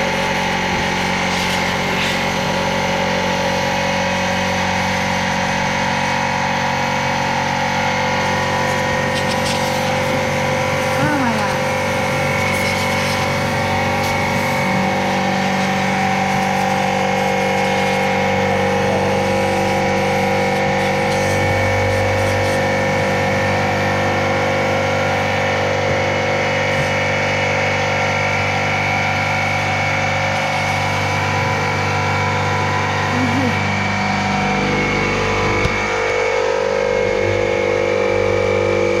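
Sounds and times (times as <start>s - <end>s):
air compressor motor humming: 0.0s - 39.0s.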